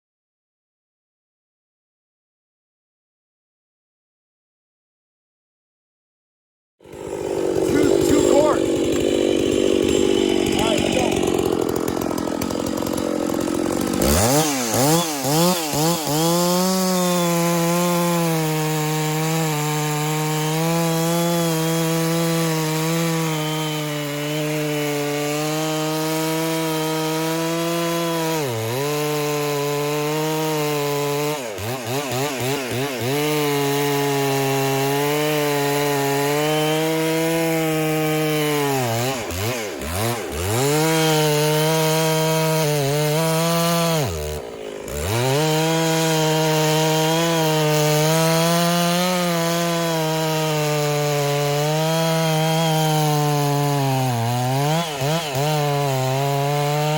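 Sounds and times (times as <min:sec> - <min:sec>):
chainsaw cutting wood: 0:06.8 - 0:56.9.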